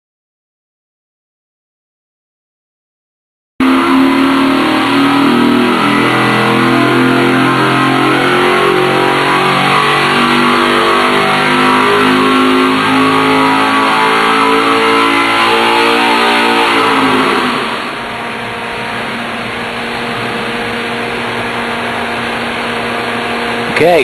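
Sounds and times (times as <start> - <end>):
engine revving at full throttle: 3.6 - 24.0.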